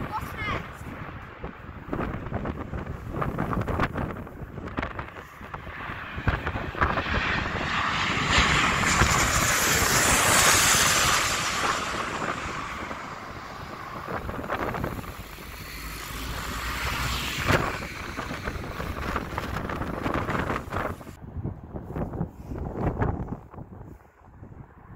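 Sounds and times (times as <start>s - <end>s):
jet airliner engine roar: 0.0s - 21.2s.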